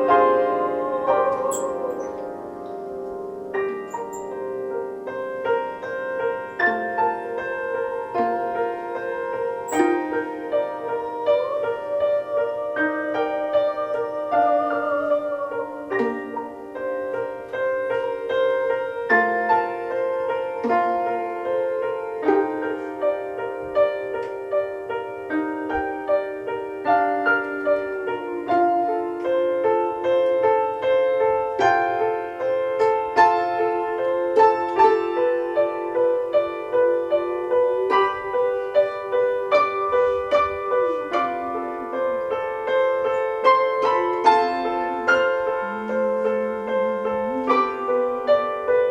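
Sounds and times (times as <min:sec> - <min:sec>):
wavering held tone: 0:00.0 - 0:02.7, 0:03.8 - 0:04.7, 0:06.2 - 0:20.4, 0:25.3 - 0:48.9.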